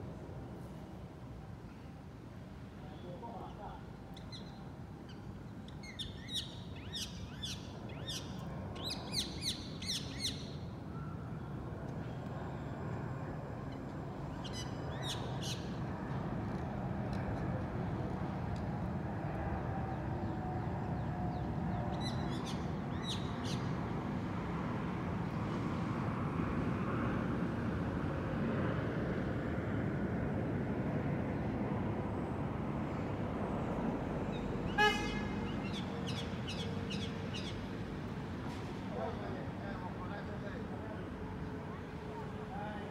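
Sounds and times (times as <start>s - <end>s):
city traffic rumble: 0.0s - 42.9s.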